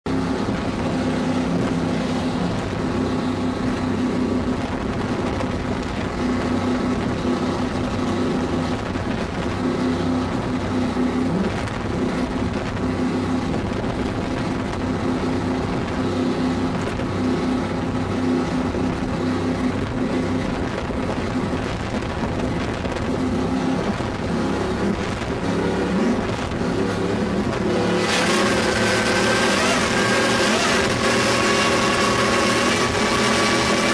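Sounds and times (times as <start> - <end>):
powerboat engines at high speed: 0.0 - 33.9
wind and water rush: 0.1 - 33.9.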